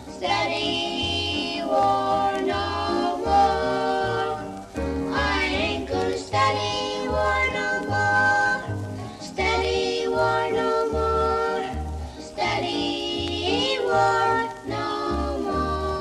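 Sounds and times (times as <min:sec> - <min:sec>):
children singing a song: 0:00.0 - 0:16.0.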